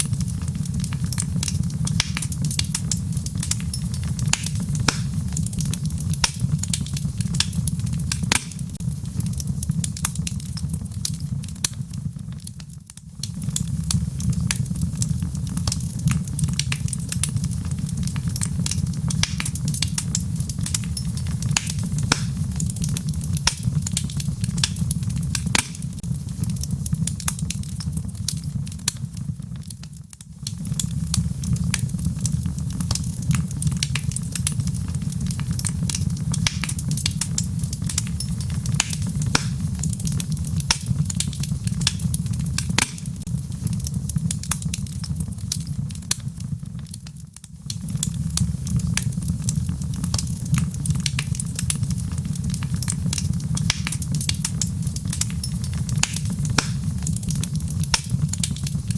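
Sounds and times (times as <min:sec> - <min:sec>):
log fire crackling: 0:00.0 - 0:58.9.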